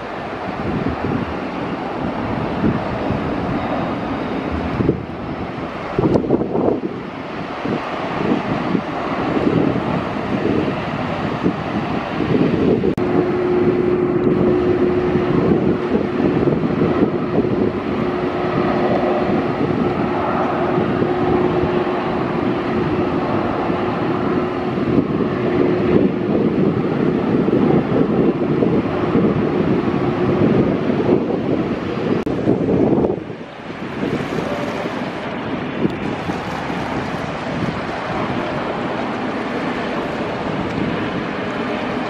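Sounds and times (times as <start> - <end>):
jet engines roaring: 0.0 - 42.0
wind on microphone: 0.0 - 42.0.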